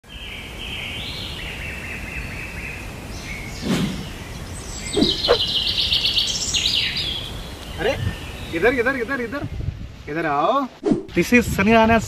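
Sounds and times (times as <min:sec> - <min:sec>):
birds chirping and trilling: 0:00.0 - 0:10.5
outdoor ambience: 0:00.0 - 0:11.4.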